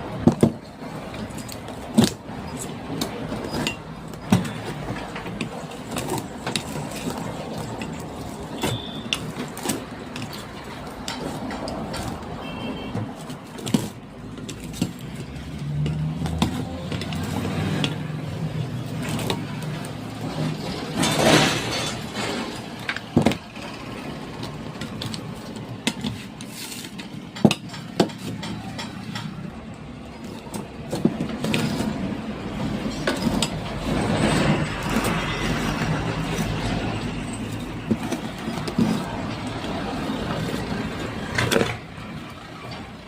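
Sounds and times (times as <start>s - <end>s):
steady background noise: 0.0s - 43.0s
clinks and knocks on metal: 0.2s - 43.0s.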